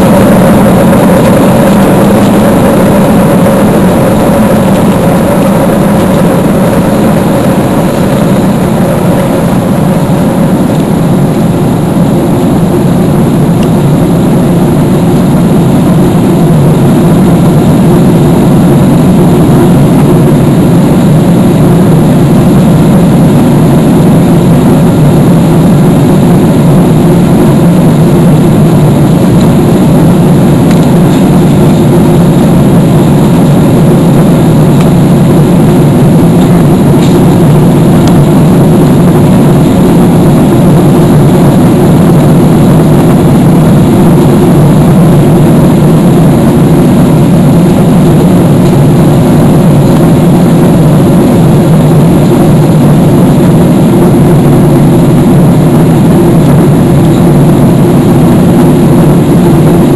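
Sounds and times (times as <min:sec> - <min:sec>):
jet engine drone: 0:00.0 - 0:59.9
rushing airflow: 0:00.0 - 0:59.9.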